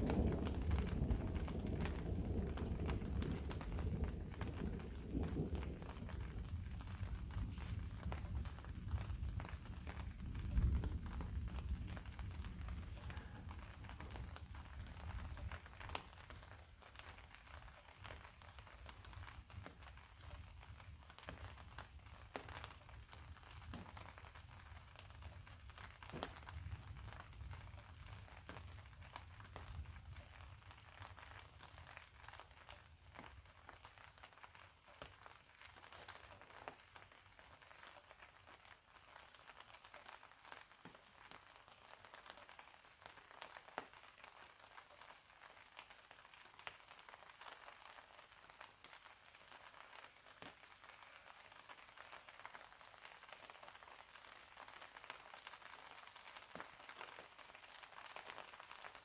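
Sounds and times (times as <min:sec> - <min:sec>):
faint rain drops ticking: 0:00.0 - 0:59.0.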